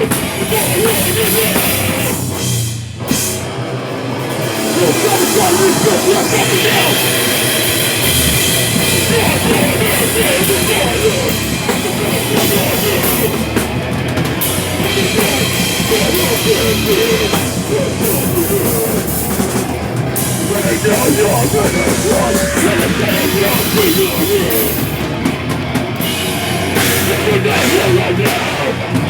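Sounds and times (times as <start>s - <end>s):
drum kit: 0.0s - 29.0s
rock band playing heavy metal: 0.0s - 29.0s.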